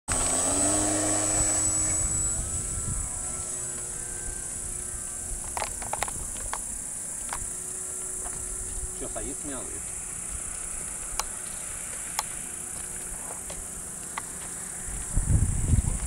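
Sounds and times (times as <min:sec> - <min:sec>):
model airplane motor and propeller: 0:00.1 - 0:16.0
crickets chirping: 0:00.4 - 0:16.0.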